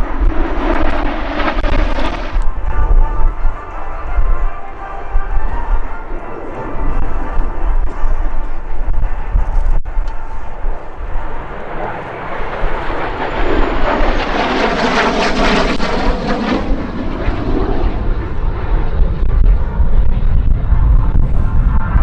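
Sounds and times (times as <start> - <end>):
jet aircraft flying past: 0.0 - 22.0.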